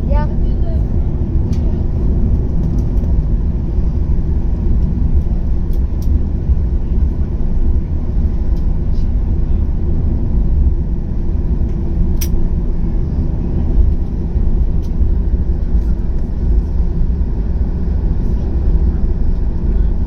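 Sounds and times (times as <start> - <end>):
airliner engines rumbling in cabin: 0.0 - 20.0.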